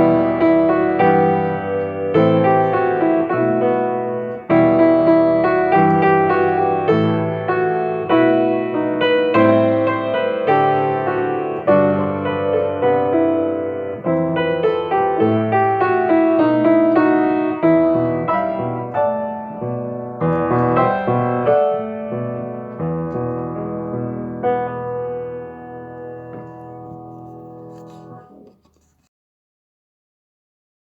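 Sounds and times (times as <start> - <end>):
solo piano: 0.0 - 29.0.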